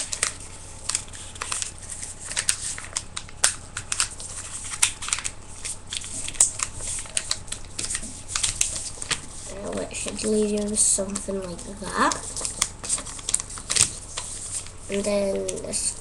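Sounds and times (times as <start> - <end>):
paper folding and crackling: 0.0 - 16.0.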